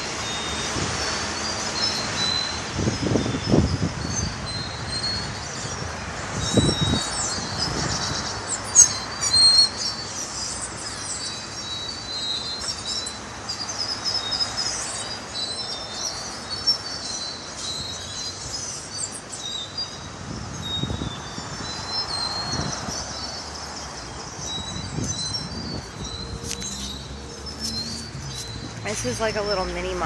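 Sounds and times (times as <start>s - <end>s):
many birds chirping: 0.0s - 30.0s.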